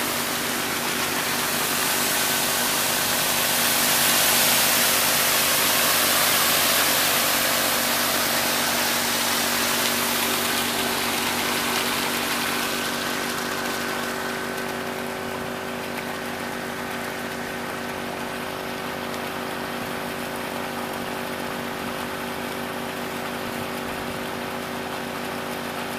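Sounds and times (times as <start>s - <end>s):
engine pump running: 0.0s - 25.9s
water rushing and splashing: 0.0s - 25.9s.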